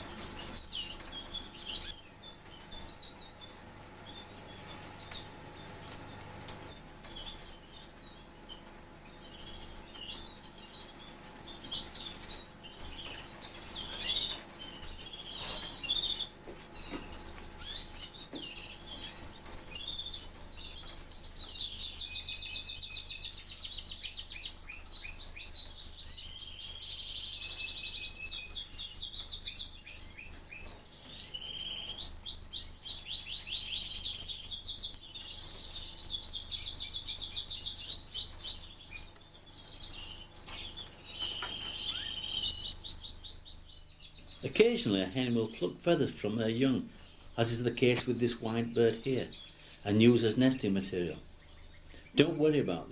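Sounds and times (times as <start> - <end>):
canaries chirping and trilling: 0.0 - 52.9.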